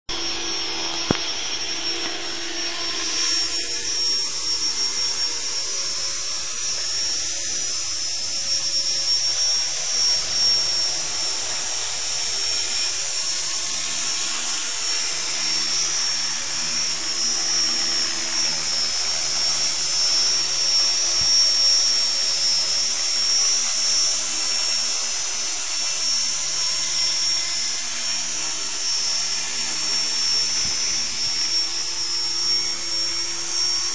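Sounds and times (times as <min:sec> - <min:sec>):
rc helicopter motor whine: 0:00.1 - 0:33.9.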